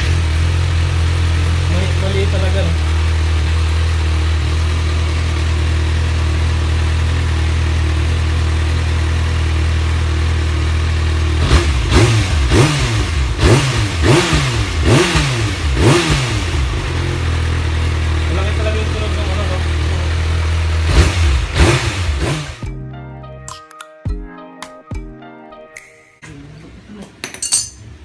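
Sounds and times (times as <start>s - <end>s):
motorcycle engine idling and revving: 0.0s - 22.7s.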